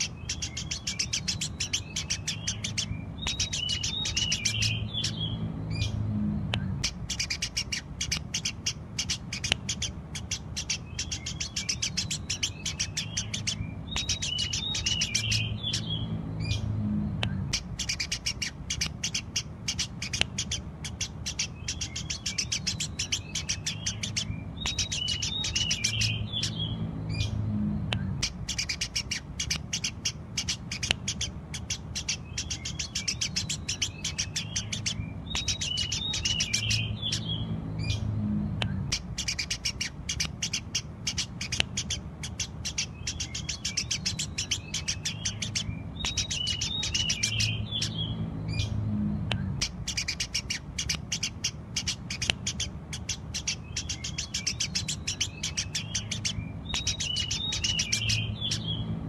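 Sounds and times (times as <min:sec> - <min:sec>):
sparrow chirping: 0:00.0 - 0:59.0
steady low hum: 0:00.0 - 0:59.0.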